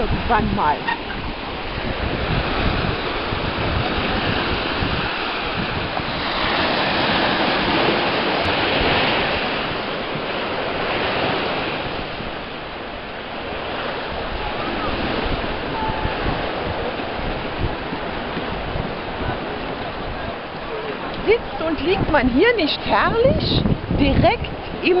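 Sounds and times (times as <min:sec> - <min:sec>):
surf washing onto shore: 0:00.0 - 0:25.0
wind buffeting microphone: 0:00.0 - 0:25.0.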